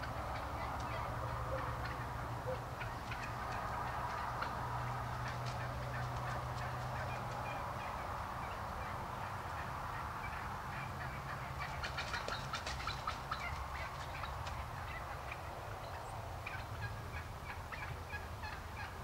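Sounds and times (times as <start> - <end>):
turkey gobbling: 0.0 - 19.0.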